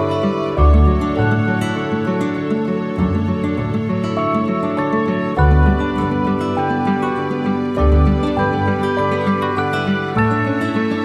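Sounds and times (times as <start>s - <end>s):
held instrumental notes: 0.0s - 11.0s.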